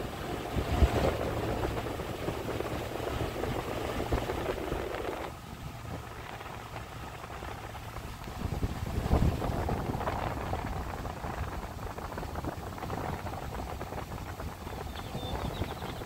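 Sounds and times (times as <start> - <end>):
car engine and tyre rumble: 0.0 - 16.0
wind buffeting microphone: 0.0 - 16.0.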